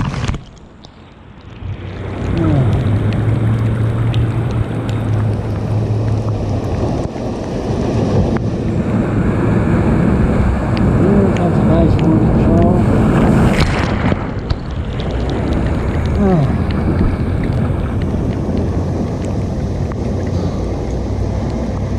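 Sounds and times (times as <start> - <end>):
low drone: 0.9 - 21.9
wind buffeting microphone: 1.4 - 21.9
ocean surf breaking: 1.7 - 21.9.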